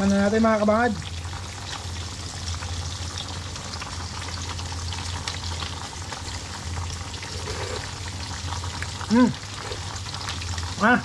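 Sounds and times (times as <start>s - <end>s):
fish frying in oil: 0.0s - 11.0s
soup boiling hard: 0.0s - 11.0s.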